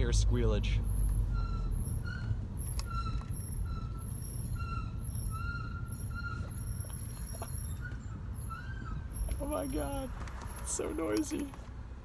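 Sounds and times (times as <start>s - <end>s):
brake pads squealing: 0.0s - 11.8s
car road and engine rumble: 0.0s - 12.0s.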